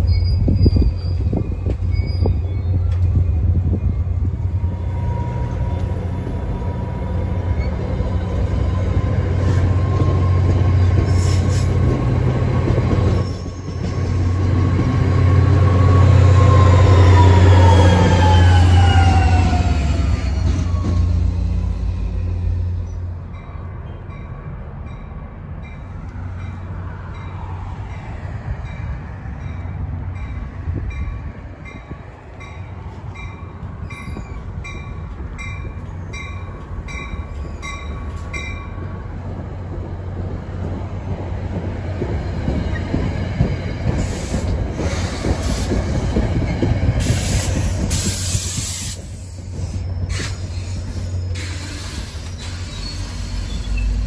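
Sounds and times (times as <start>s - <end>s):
train wheels squealing on rails: 0.0s - 24.4s, 31.6s - 38.9s, 42.0s - 54.0s.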